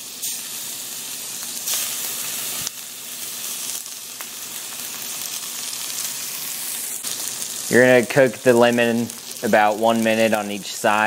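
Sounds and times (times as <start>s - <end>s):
lemon slices sizzling in skillet: 0.0s - 11.0s.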